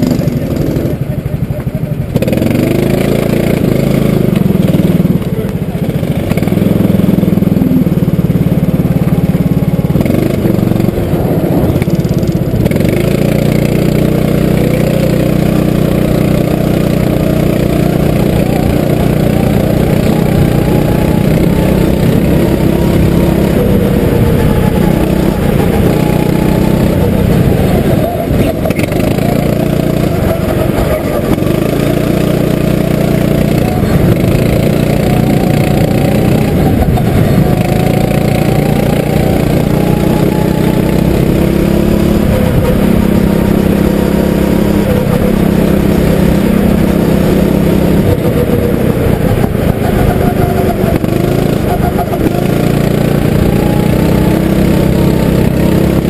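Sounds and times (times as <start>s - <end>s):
kart engine buzzing: 0.0s - 56.0s.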